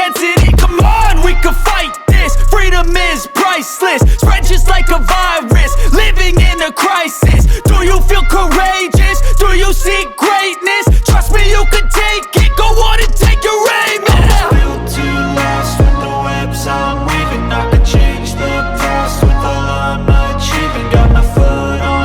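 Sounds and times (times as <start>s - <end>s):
hip-hop music with deep bass: 0.0s - 22.0s.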